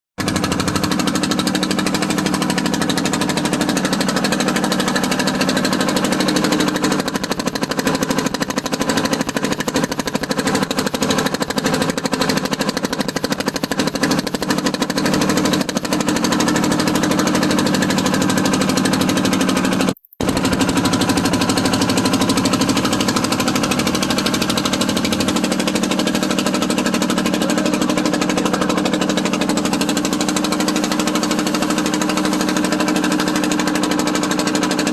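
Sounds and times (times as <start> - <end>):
motorboat engine running: 0.2 - 34.9.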